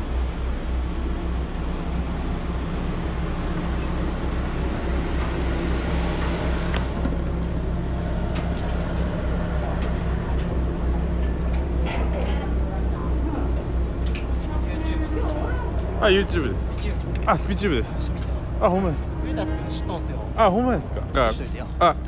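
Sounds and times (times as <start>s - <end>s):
ferry engine idling: 0.0s - 22.0s.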